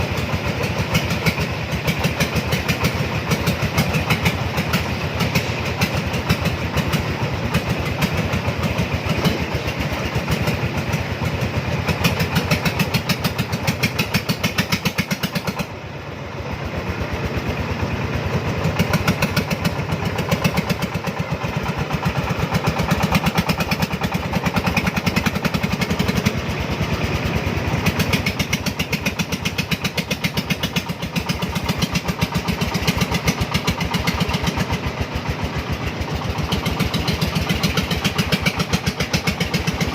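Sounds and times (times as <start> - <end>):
three-wheeler engine chugging: 0.0 - 39.9.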